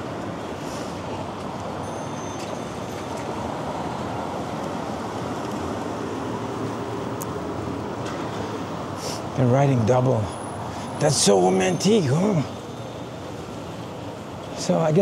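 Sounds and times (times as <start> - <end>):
cars passing: 0.0 - 15.0
city street traffic: 0.0 - 15.0.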